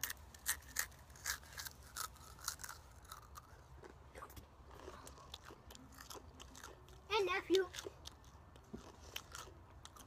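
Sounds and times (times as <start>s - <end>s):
chewing crunchy chips: 0.0s - 10.0s.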